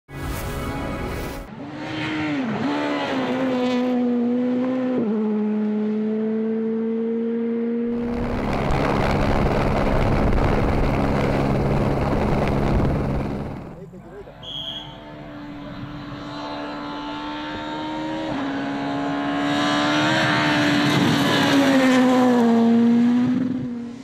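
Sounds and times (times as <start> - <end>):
rough engine with road noise: 0.1 - 24.0
rally car engine at high revs: 1.5 - 24.0.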